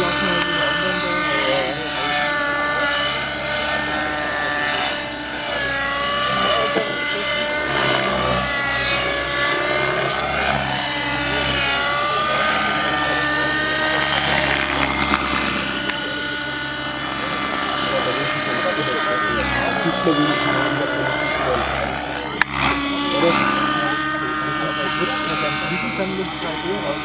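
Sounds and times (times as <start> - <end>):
model helicopter engine whining: 0.0 - 27.0.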